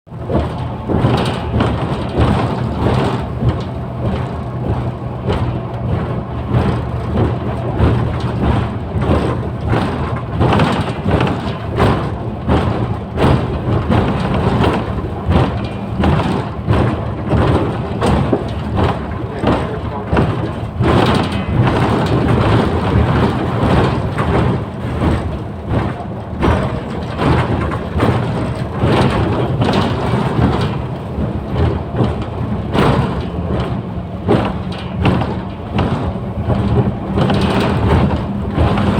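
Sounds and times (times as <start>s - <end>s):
body knocks and rattles: 0.1s - 38.9s
bus engine drone: 0.1s - 38.9s.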